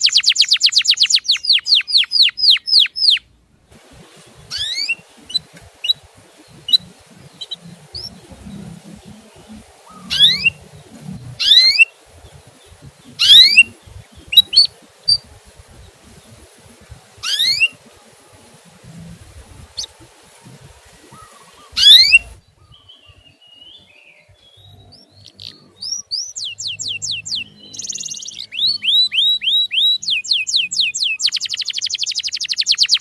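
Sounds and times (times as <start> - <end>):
canary singing: 0.0 - 3.3, 3.9 - 33.0.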